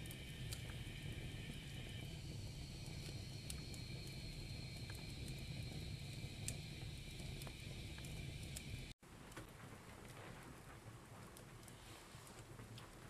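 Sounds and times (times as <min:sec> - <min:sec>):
fire popping: 0:00.0 - 0:13.0
wood fire crackling: 0:00.0 - 0:13.0.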